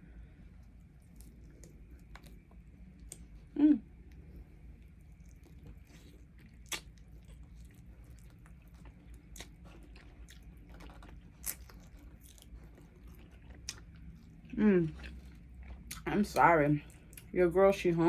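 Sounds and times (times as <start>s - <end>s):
faint steady hum: 0.0s - 18.0s
person chewing chicken wings: 0.6s - 17.3s.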